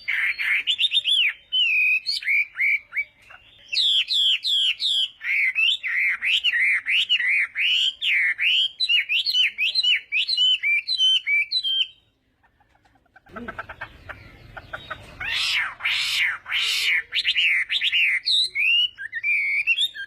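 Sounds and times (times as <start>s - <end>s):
bird singing whistled notes: 0.0s - 12.2s, 13.8s - 20.0s.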